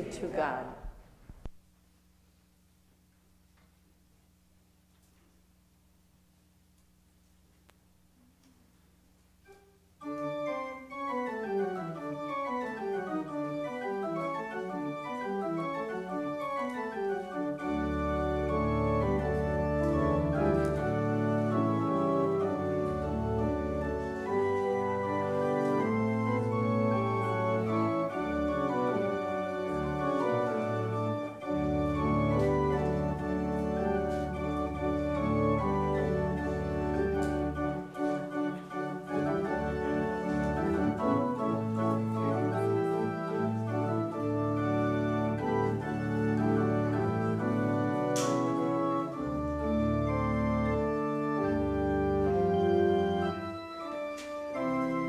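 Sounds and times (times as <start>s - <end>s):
organ playing chords: 9.3s - 55.0s.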